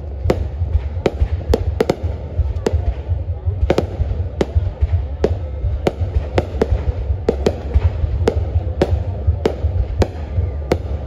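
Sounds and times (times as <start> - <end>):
continuous low rumble: 0.0 - 11.0
fireworks bangs: 0.0 - 11.0.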